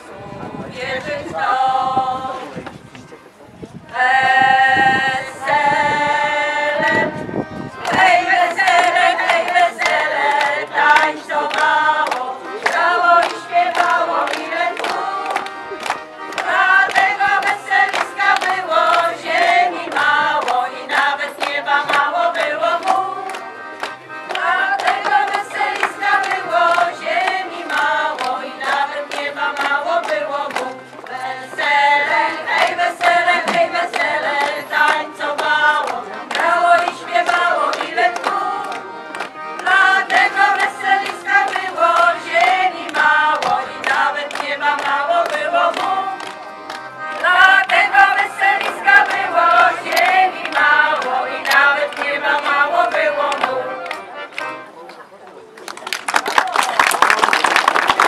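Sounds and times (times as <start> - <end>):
women's choir singing folk song: 0.0 - 2.8, 3.9 - 54.6
accordion: 0.0 - 55.7.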